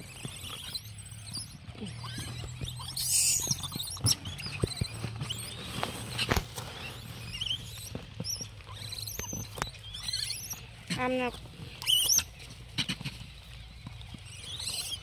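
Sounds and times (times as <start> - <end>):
straw and paper rustling: 1.6 - 15.0.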